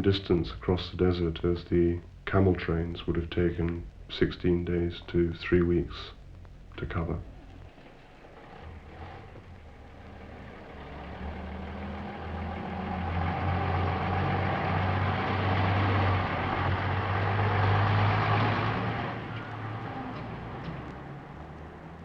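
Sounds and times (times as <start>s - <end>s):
road noise: 0.0s - 22.0s
truck engine humming: 0.0s - 22.0s.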